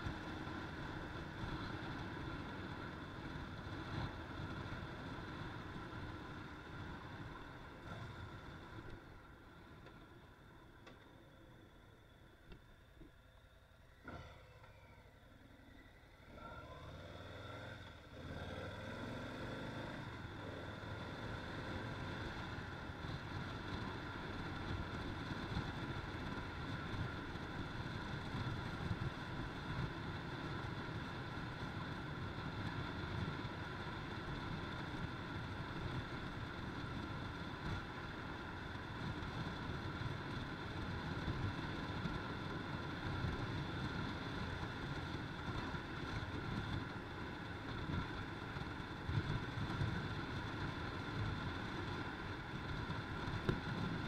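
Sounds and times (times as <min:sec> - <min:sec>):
motorcycle exhaust rumble: 0:00.0 - 0:13.2, 0:13.8 - 0:54.0.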